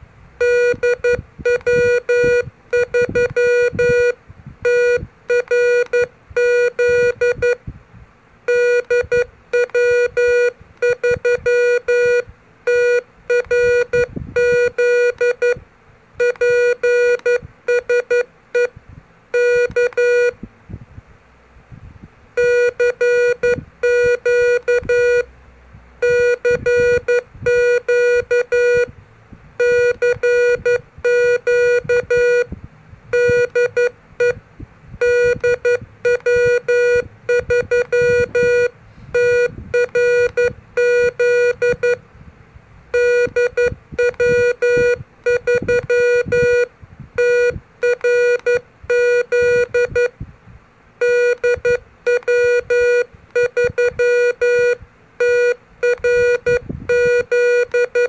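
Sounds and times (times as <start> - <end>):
morse code sidetone beeps: 0.4 - 7.6, 8.5 - 15.6, 16.2 - 18.7, 19.3 - 20.4, 22.4 - 25.3, 26.0 - 28.9, 29.6 - 32.5, 33.1 - 34.4, 35.0 - 42.0, 42.9 - 50.1, 51.0 - 58.0.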